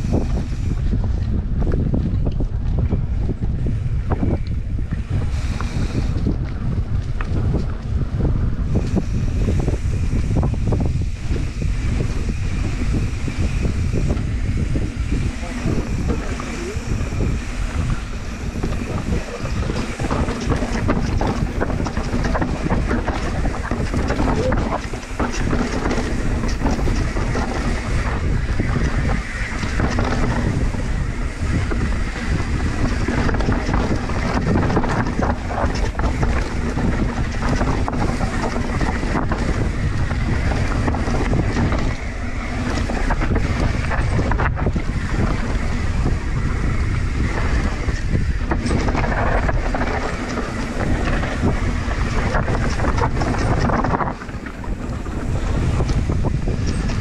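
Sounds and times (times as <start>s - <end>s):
bike clicks and knocks: 0.0s - 57.0s
tyres rumbling on dirt: 0.0s - 57.0s
wind buffeting microphone: 0.0s - 57.0s.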